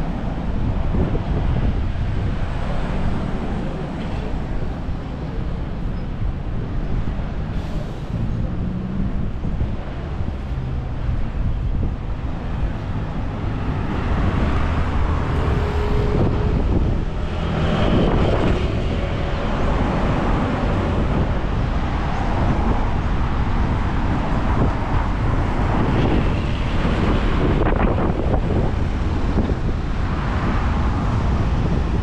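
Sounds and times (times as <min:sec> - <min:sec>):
vehicles passing: 0:00.0 - 0:32.0
wind rumble on microphone: 0:00.0 - 0:32.0.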